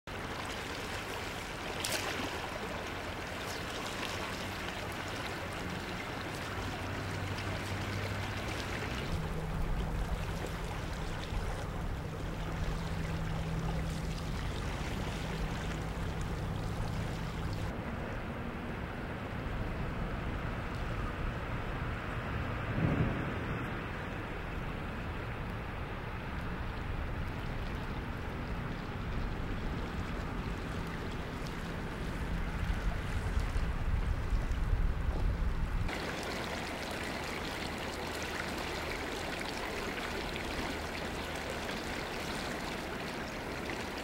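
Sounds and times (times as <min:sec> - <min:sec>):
rushing river water: 0:00.1 - 0:44.0.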